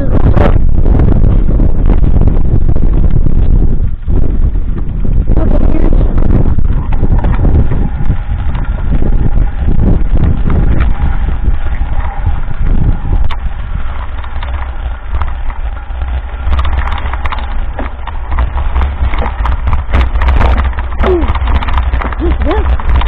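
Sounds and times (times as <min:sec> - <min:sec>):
bike clattering and rattling: 0:00.0 - 0:23.0
wind rumbling on microphone: 0:00.0 - 0:23.0.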